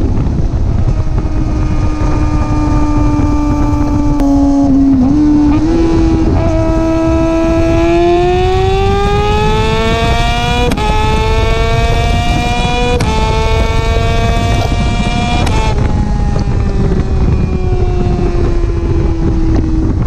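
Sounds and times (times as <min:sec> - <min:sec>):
motorcycle engine accelerating: 0:00.0 - 0:20.0
wind rush: 0:00.0 - 0:20.0
gear upshift cut: 0:00.2 - 0:17.2.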